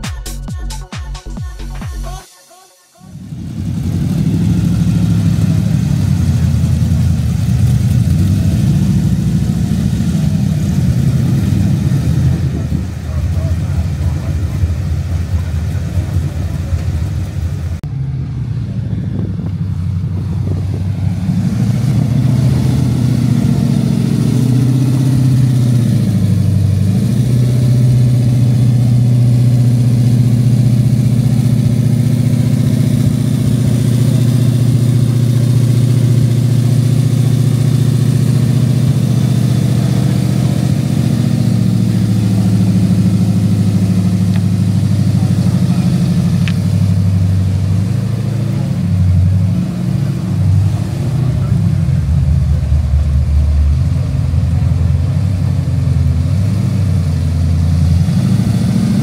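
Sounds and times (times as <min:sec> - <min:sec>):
rough engine running unevenly: 0:00.0 - 0:02.2, 0:03.0 - 0:59.0
car engine idling deeply: 0:03.1 - 0:59.0.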